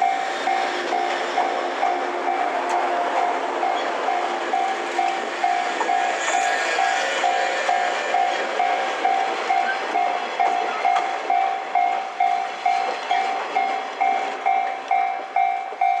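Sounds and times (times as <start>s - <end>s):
higher-pitched bell: 0.0s - 2.6s, 3.6s - 16.0s
level crossing warning bell: 0.0s - 16.0s
train running: 0.0s - 16.0s.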